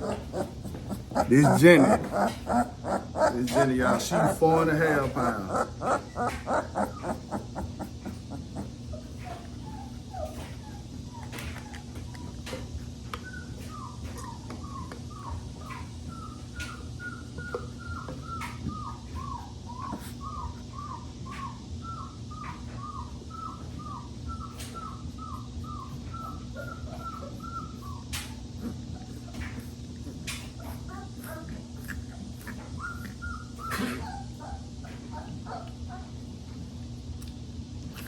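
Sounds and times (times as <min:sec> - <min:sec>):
puppy whimpering: 0:00.0 - 0:36.3.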